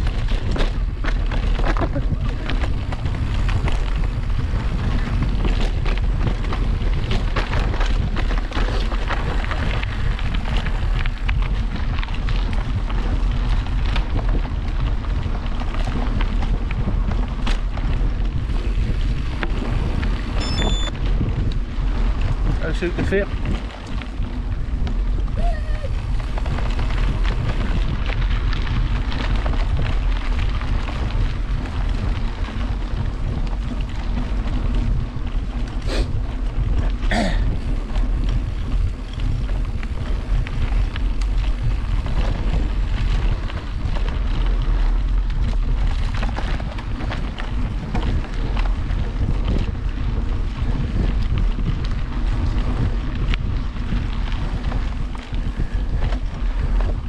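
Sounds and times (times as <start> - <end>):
mountain bike rumble and rattle: 0.0 - 57.0
wind buffeting microphone: 0.0 - 57.0.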